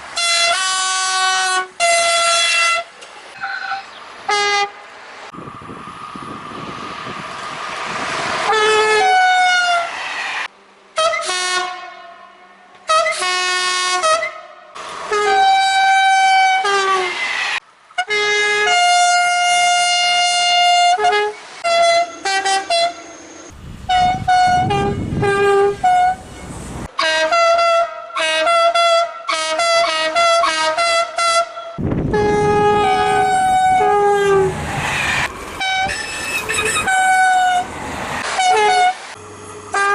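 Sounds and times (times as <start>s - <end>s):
passing train rumbling: 0.0s - 39.9s
two-tone train horn: 0.2s - 4.8s, 8.5s - 10.0s, 11.0s - 17.2s, 18.0s - 23.1s, 23.8s - 34.6s, 35.6s - 39.9s.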